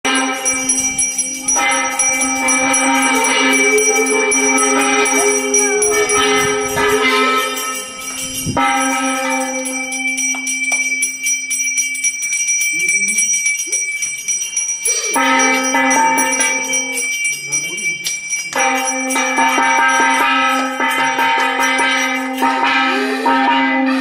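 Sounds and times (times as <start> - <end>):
bells ringing: 0.0 - 24.0.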